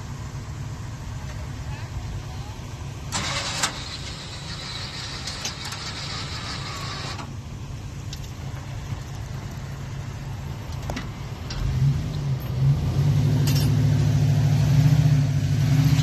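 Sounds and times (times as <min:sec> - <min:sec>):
truck engine idling: 0:00.0 - 0:14.6.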